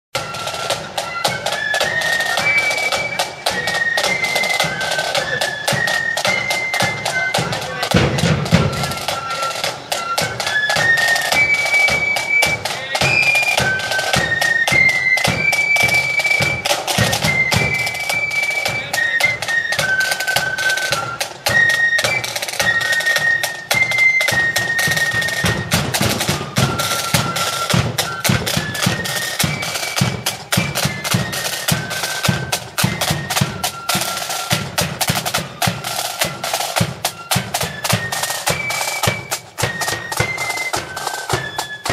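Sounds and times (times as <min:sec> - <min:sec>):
flutes playing melody: 0:00.2 - 0:41.9
snare drum playing: 0:00.2 - 0:41.9.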